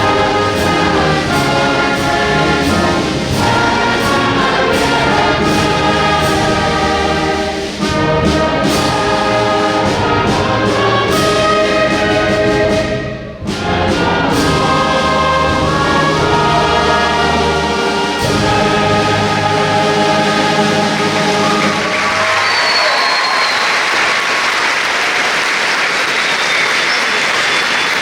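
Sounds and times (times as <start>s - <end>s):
orchestral music with brass: 0.0s - 24.4s.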